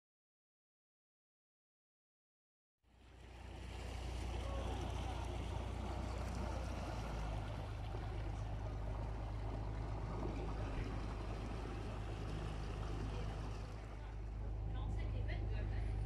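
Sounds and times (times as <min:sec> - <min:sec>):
boat engine humming: 0:02.8 - 0:16.0
water rushing along hull: 0:02.9 - 0:16.0.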